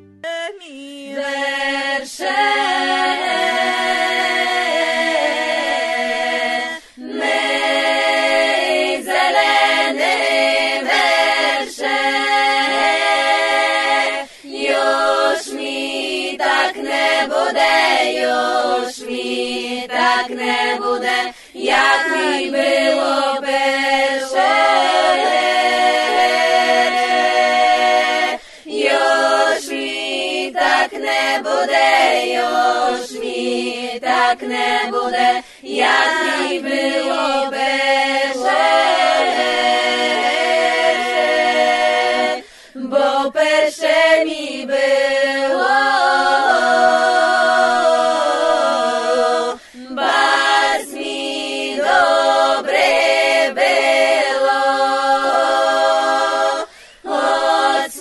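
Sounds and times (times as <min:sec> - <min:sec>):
a cappella group singing: 0:00.0 - 0:58.0.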